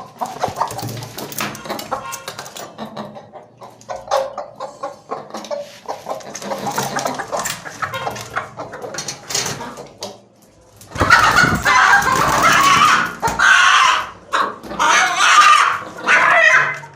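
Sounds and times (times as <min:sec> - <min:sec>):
hen clucking: 0:00.0 - 0:16.9.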